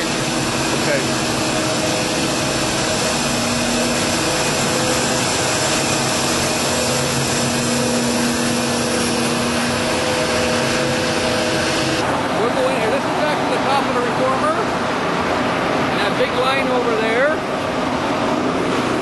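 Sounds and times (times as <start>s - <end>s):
faint hum tones: 0.0s - 19.0s
industrial machinery running: 0.0s - 19.0s.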